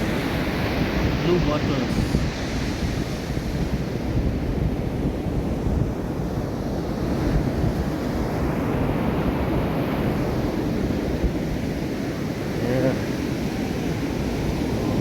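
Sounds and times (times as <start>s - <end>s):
ocean surf breaking on beach: 0.0s - 15.0s
wind buffeting microphone: 0.0s - 15.0s.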